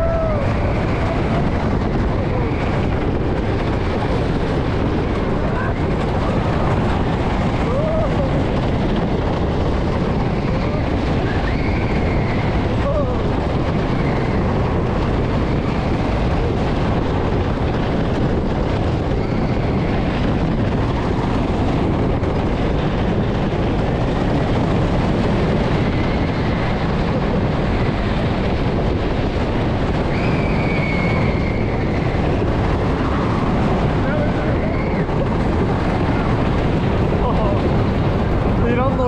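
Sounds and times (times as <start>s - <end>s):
roller coaster wheels rumbling: 0.0s - 39.0s
wind on microphone: 0.0s - 39.0s.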